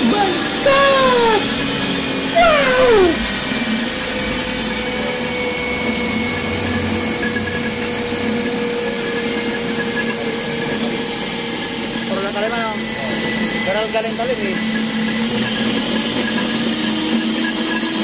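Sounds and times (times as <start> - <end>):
pipe threading machine whining: 0.0 - 18.0.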